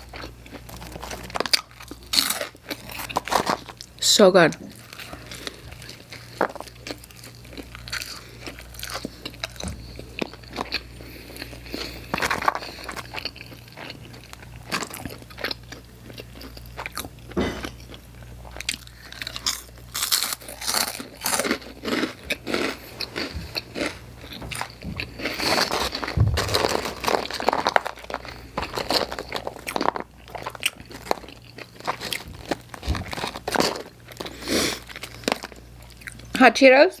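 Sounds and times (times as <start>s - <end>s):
chewing and crunching food: 0.0s - 36.4s
faint low hum: 0.0s - 37.0s.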